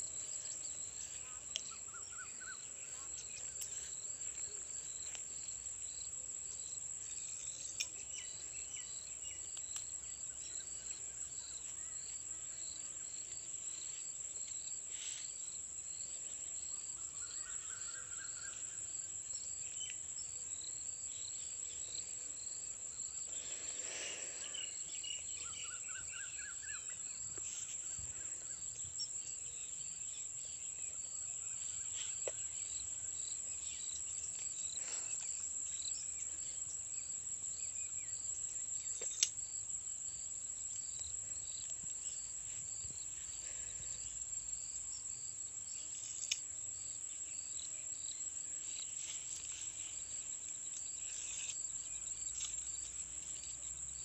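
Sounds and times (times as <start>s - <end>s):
high-pitched insect trill: 0.2s - 54.0s.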